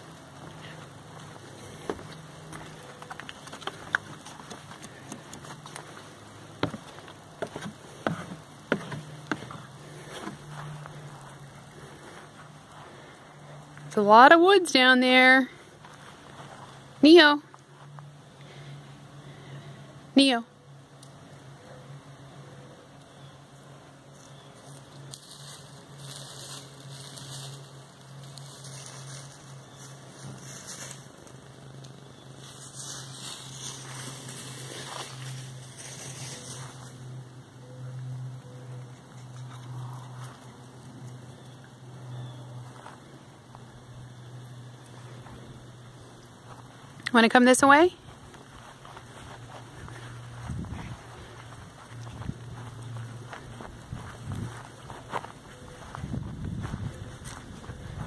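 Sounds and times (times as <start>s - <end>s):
dry leaves rustling underfoot: 0.0s - 13.8s, 15.5s - 17.0s, 24.0s - 37.8s, 39.1s - 58.0s
low steady hum: 0.0s - 58.0s.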